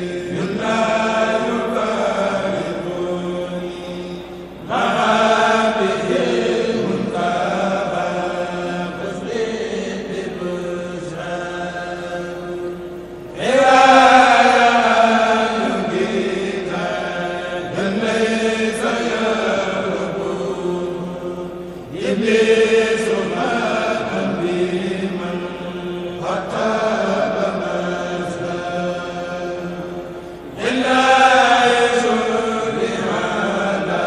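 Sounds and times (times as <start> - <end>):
men chanting in unison: 0.0 - 34.0.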